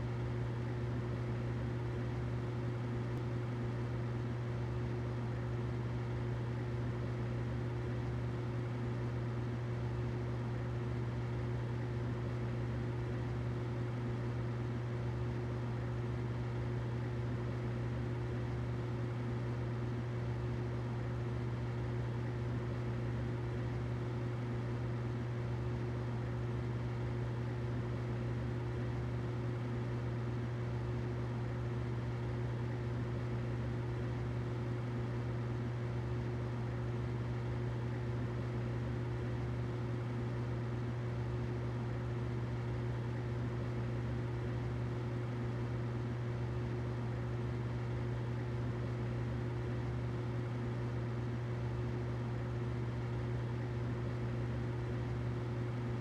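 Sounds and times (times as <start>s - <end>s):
humidifier humming: 0.0s - 56.0s.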